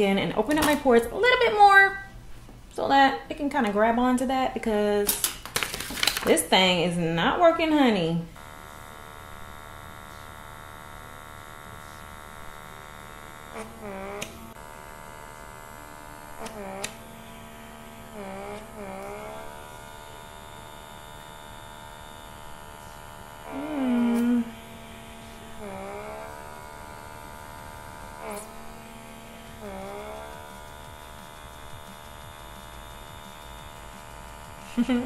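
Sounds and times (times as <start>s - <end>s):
pore vacuum electric hum: 0.0s - 35.0s.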